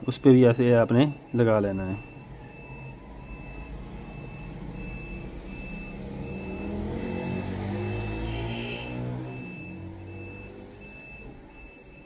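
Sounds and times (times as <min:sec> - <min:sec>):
reversing alarm beeps: 0:00.0 - 0:12.0.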